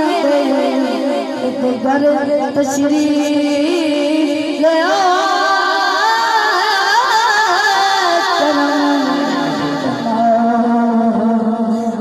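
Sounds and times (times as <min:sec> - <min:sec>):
boy singing through microphone: 0:00.0 - 0:12.0.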